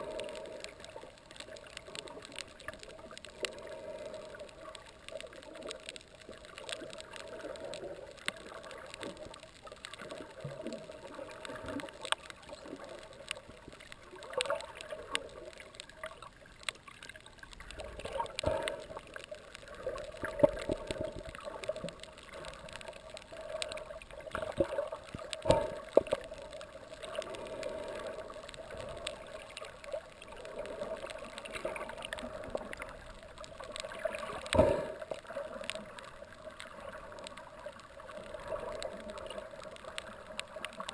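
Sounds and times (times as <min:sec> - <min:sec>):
underwater rush of water: 0:00.0 - 0:40.9.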